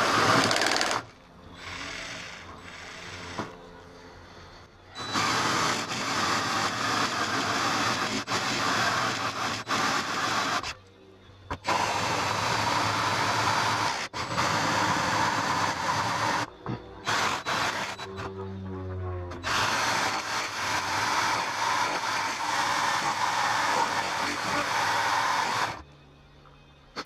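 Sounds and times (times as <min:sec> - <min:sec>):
drill hole saw cutting metal: 0:00.0 - 0:10.8, 0:11.5 - 0:18.4, 0:19.3 - 0:25.8.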